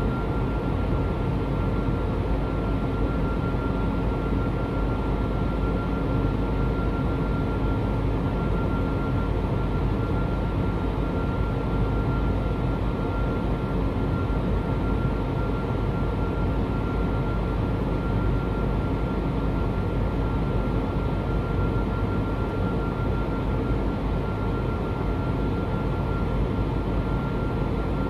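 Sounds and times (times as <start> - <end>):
aircraft cabin engine roar: 0.0 - 28.0.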